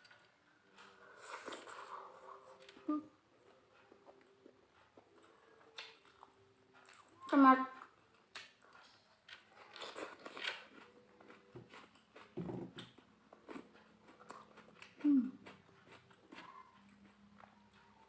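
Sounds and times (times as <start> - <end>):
chewing raw tomato: 0.0 - 18.0.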